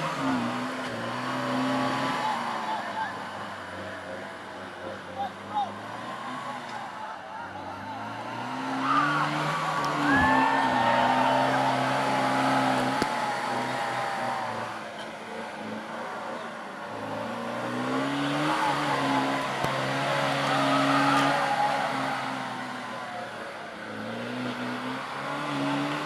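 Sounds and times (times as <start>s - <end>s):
engine revving under load: 0.0s - 26.0s.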